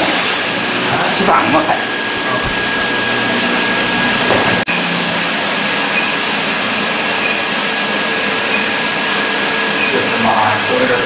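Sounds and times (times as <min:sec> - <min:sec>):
brazing machine whine: 0:00.0 - 0:11.0.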